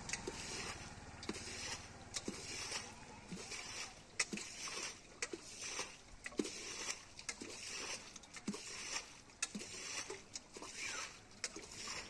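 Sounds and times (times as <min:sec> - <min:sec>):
metal bowl scooping water: 0:00.0 - 0:12.0.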